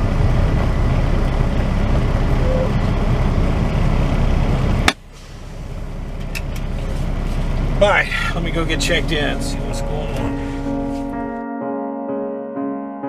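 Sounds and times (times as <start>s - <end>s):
truck diesel engine running: 0.0s - 11.3s.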